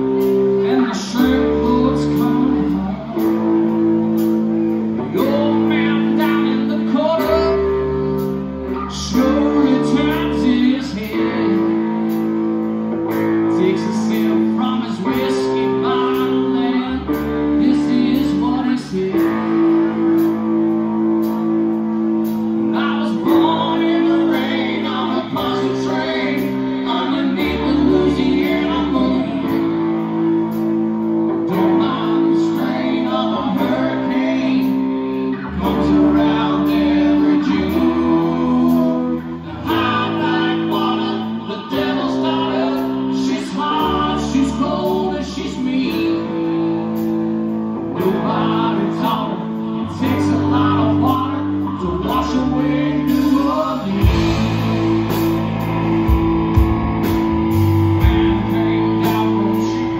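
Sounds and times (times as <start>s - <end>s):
bass guitar: 0.0s - 59.9s
drums: 0.0s - 59.9s
electric guitars: 0.0s - 59.9s.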